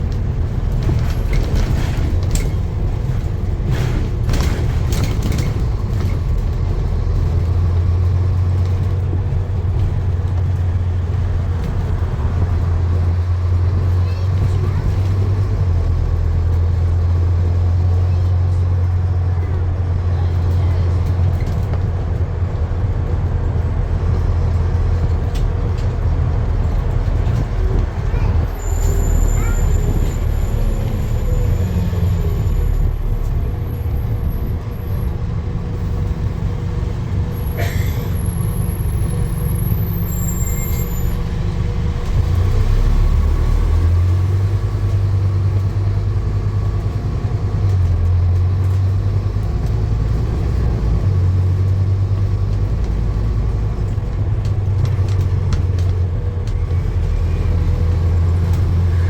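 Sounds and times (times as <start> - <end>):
vehicle rumbling: 0.0 - 59.0.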